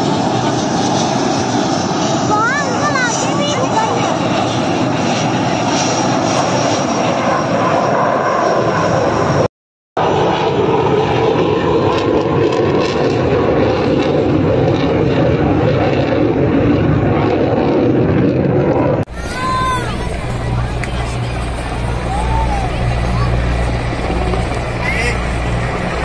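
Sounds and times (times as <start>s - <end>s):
jet engine noise: 0.0s - 26.0s.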